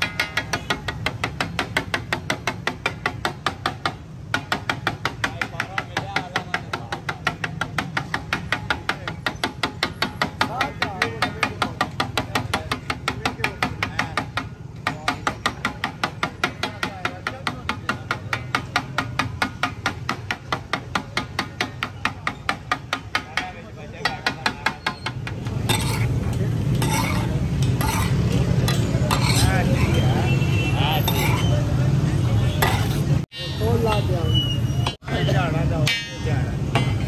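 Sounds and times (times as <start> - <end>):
spatula clacking on steel griddle: 0.0 - 30.1, 31.0 - 31.5, 32.6 - 34.1.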